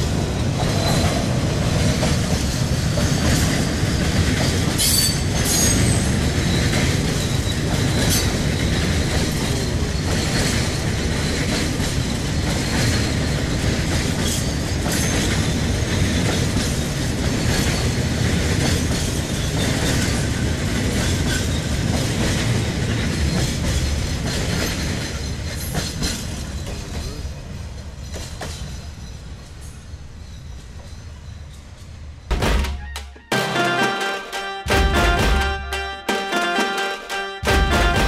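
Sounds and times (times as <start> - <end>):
freight train rolling past: 0.0 - 38.0.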